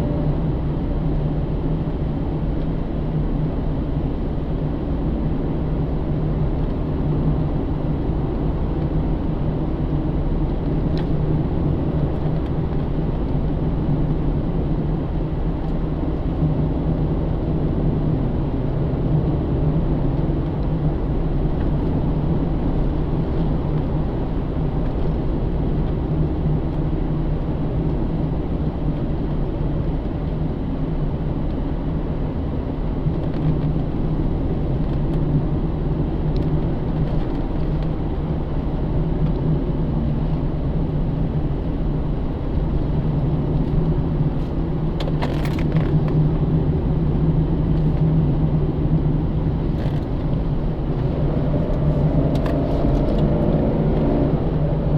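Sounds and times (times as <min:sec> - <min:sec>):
car engine droning: 0:00.0 - 0:54.9
road and tyre rumble: 0:00.0 - 0:54.9.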